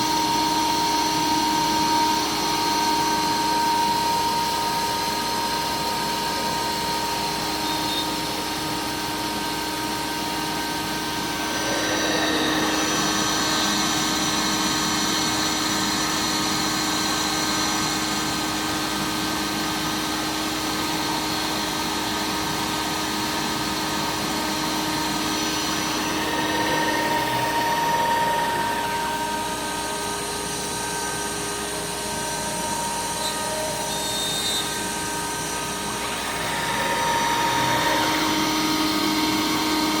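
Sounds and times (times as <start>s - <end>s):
router spindle whine: 0.0s - 40.0s.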